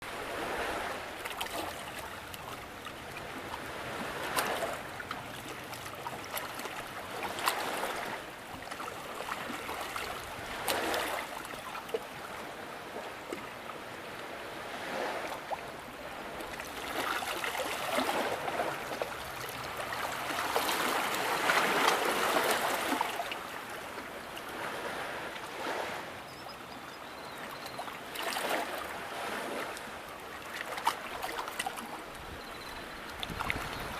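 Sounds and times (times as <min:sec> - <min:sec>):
waves lapping against rock: 0:00.0 - 0:33.9.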